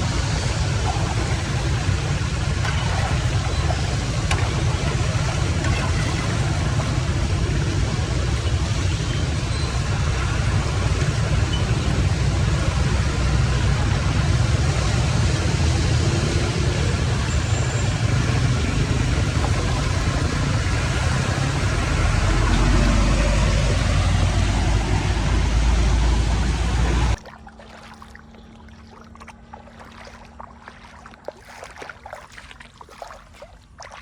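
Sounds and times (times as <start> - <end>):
water rushing into a drain: 0.0 - 34.0.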